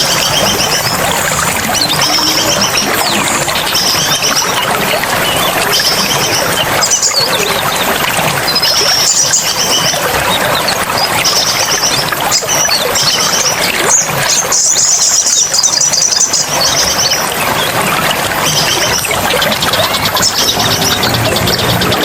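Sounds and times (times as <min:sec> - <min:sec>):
running water: 0:00.0 - 0:22.0
songbirds trilling: 0:00.0 - 0:22.0.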